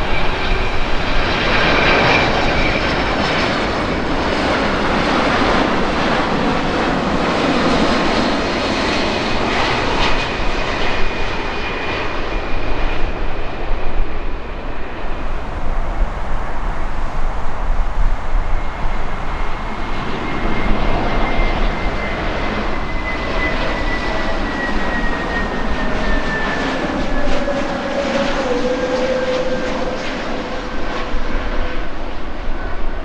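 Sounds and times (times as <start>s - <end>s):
jet engines roaring overhead: 0.0s - 33.0s.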